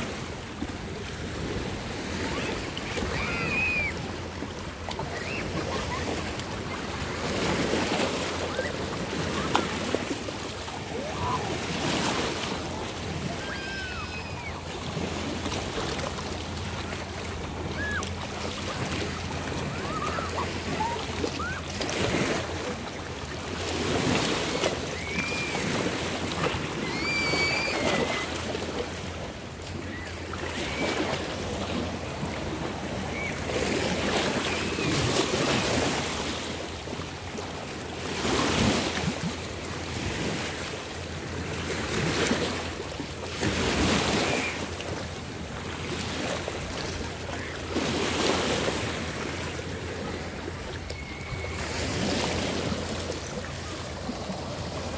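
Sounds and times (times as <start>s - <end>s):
waves lapping at shore: 0.0s - 54.9s.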